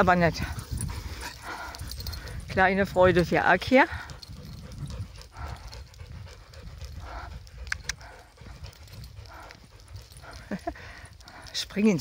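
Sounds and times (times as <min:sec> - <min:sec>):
wind rumble on microphone: 0:00.0 - 0:11.5
dog panting: 0:00.0 - 0:12.0.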